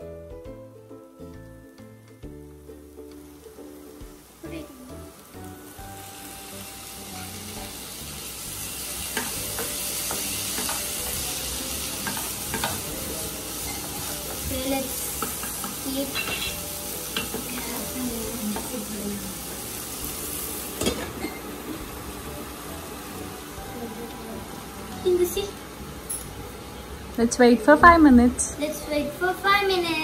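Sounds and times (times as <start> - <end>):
vegetables sizzling in a frying pan: 1.2 - 30.0.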